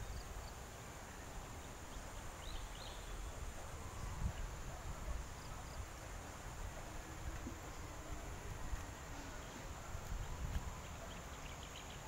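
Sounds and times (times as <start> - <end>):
faint bird chirps: 0.0 - 5.9, 6.9 - 12.0
wind rumble on microphone: 1.9 - 12.0.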